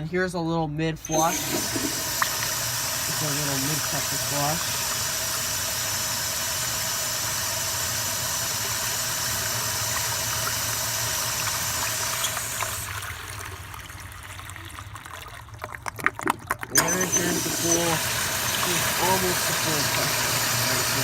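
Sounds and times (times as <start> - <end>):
hose water rushing into toilet: 1.0 - 21.0.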